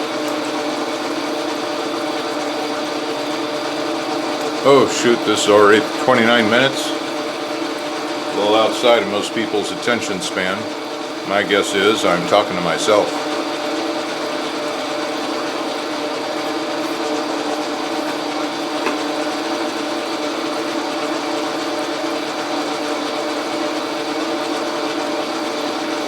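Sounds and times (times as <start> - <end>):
metal lathe humming: 0.0 - 26.0.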